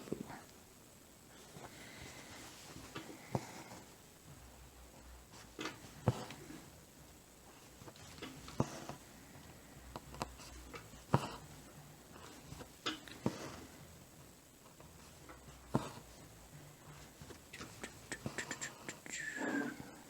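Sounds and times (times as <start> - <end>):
needle through fabric rustling: 1.3 - 19.0.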